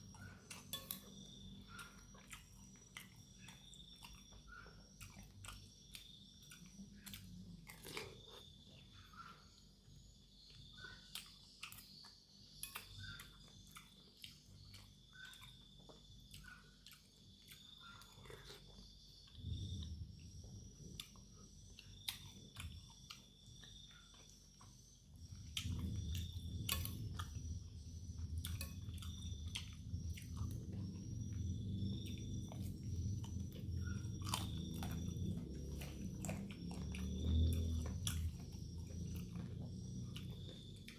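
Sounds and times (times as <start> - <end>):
close chewing of noodles: 0.0 - 40.9.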